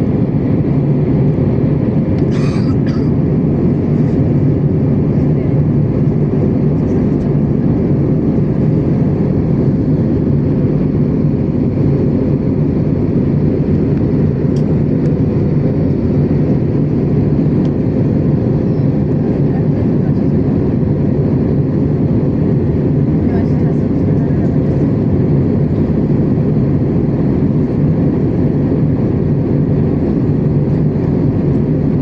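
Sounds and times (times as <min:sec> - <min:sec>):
jet engine drone: 0:00.0 - 0:32.0.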